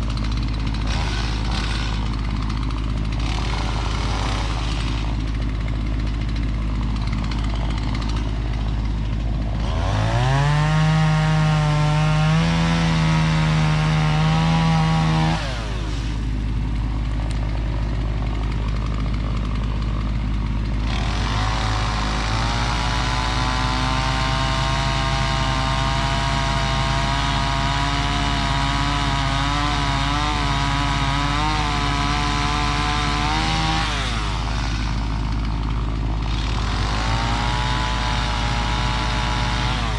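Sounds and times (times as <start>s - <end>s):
chainsaw sawing wood: 0.0s - 39.9s.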